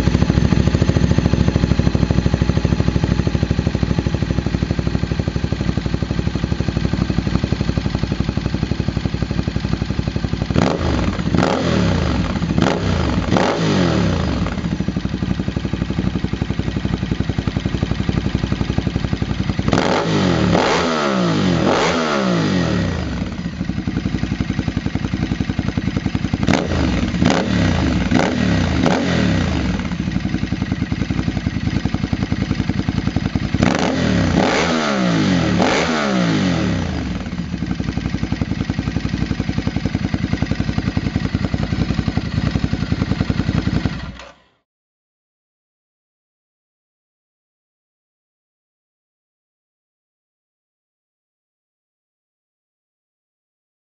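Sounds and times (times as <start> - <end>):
motorcycle engine idling and revving: 0.0 - 44.6.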